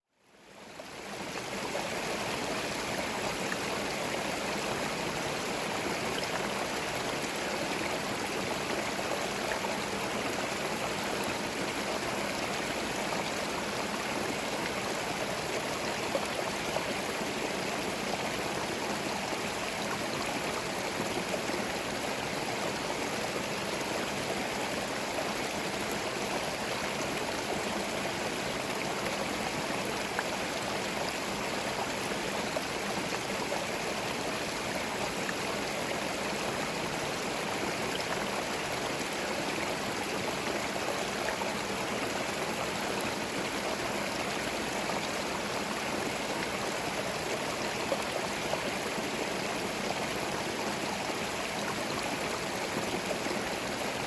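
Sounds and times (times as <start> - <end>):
stream flowing: 0.2 - 54.0.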